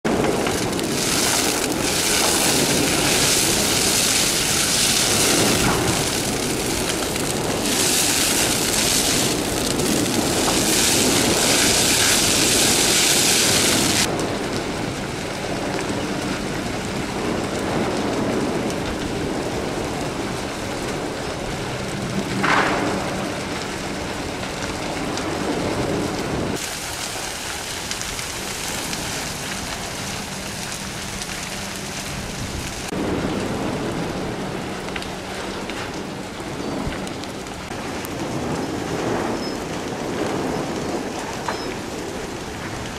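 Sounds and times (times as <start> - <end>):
fire crackling and rushing: 0.0 - 42.9.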